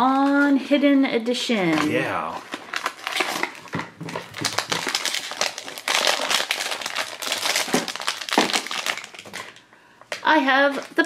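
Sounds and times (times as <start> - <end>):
foil bag crinkling: 1.8 - 11.0.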